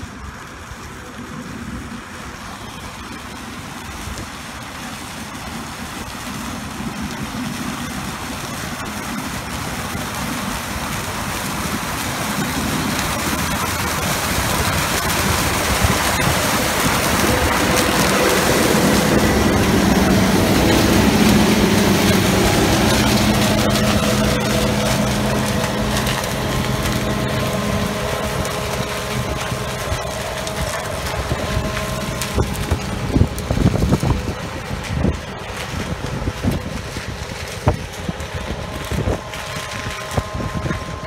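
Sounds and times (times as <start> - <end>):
combine harvester engine and machinery: 0.0 - 41.0.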